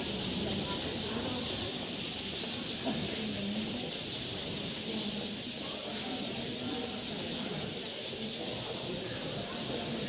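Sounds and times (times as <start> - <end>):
murmur of voices: 0.0 - 10.0.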